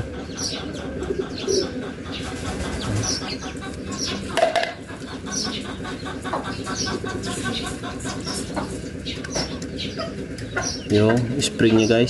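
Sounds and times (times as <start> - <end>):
bird cooing: 0.0 - 10.9
birds chirping: 0.0 - 12.0.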